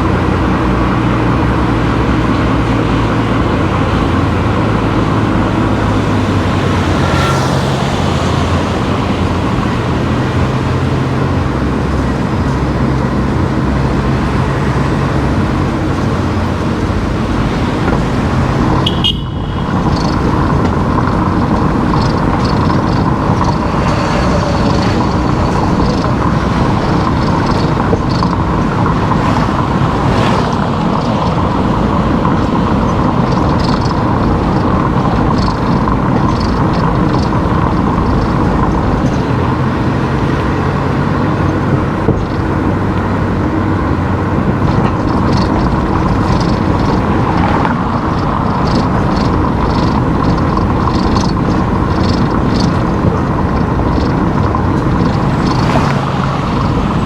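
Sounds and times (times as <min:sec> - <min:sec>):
car driving along road: 0:00.0 - 0:57.0.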